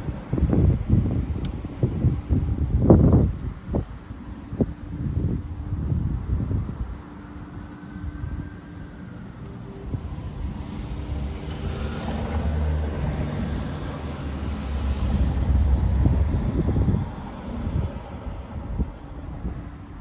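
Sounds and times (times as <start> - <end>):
low vehicle rumble: 0.0 - 20.0
wind on microphone: 0.0 - 20.0.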